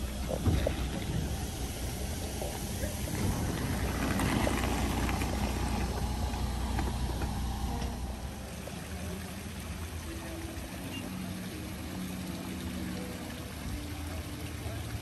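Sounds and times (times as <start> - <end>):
bus engine idling: 0.0 - 12.4
water rushing from fountain: 0.0 - 15.0.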